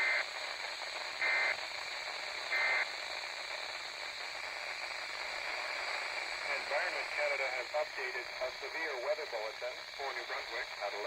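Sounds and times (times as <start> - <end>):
radio hiss and static: 0.0 - 11.0.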